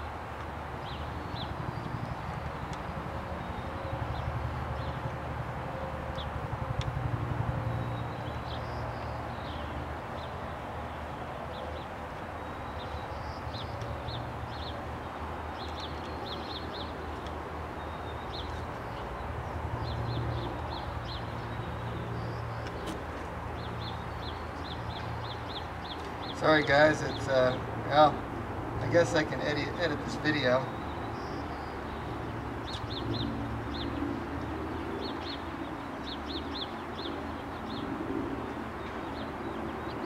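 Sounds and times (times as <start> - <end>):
small birds chirping: 0.8 - 5.0, 7.6 - 40.0.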